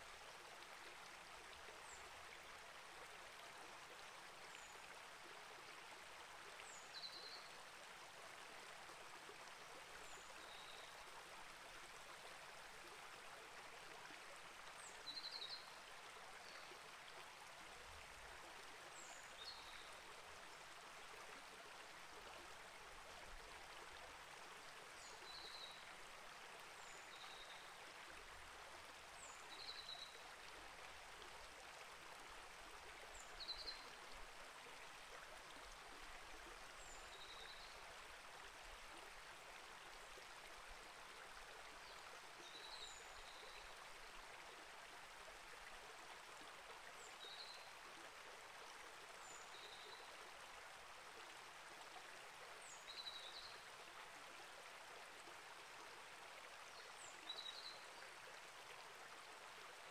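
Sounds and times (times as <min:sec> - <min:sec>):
creek flowing: 0:00.0 - 0:59.9.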